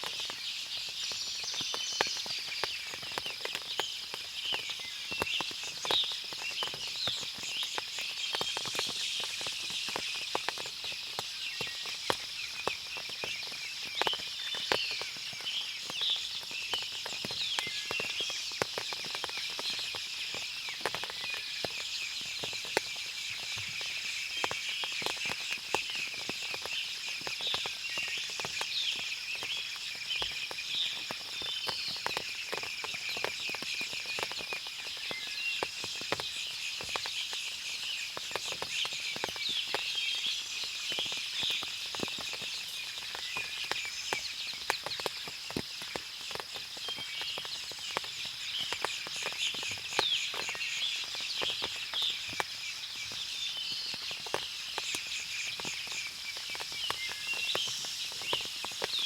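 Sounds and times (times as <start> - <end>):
small birds chirping: 0.0 - 59.0
water dripping from trees: 0.0 - 59.0.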